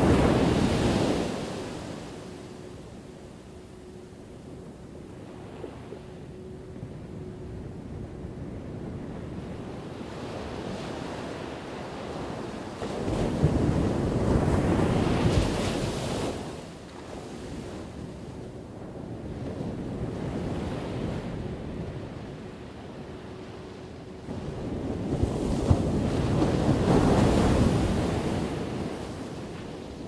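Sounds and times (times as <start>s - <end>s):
ocean waves washing: 0.0s - 16.5s, 20.0s - 30.0s.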